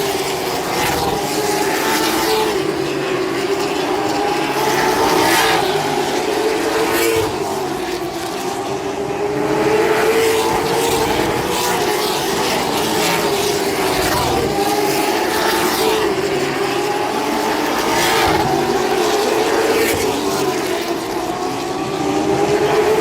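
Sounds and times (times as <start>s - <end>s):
cars sweeping past: 0.0s - 23.0s
race car engines: 0.0s - 23.0s.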